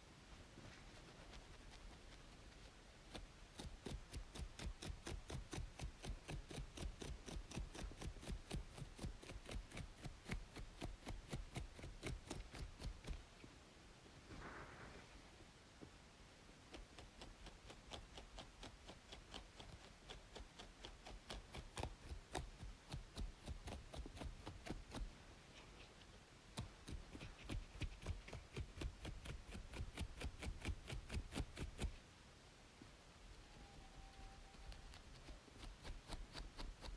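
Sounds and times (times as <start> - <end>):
faint white-noise hiss: 0.0 - 36.9
scratching on scalp: 0.6 - 13.3, 16.7 - 32.0, 34.4 - 36.9.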